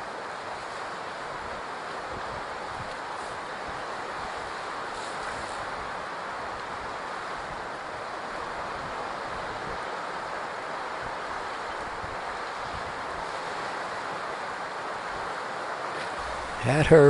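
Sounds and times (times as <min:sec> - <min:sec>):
ocean surf rushing: 0:00.0 - 0:17.0
wind: 0:00.0 - 0:17.0.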